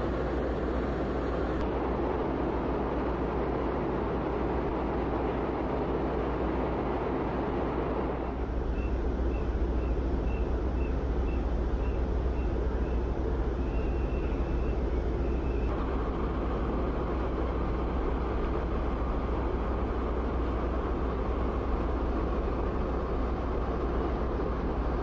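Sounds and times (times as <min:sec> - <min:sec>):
ferry machinery drone: 0:00.0 - 0:25.0.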